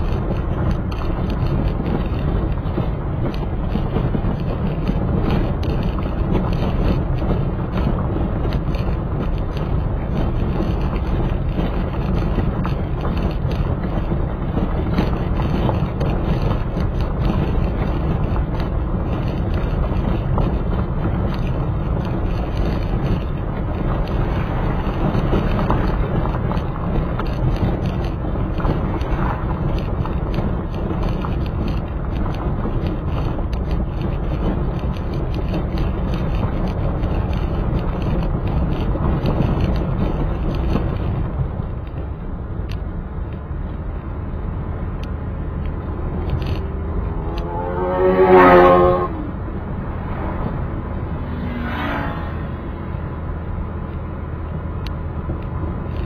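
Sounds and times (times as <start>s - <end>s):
vehicle engine and tyre noise: 0.0s - 56.0s
wind: 0.0s - 56.0s.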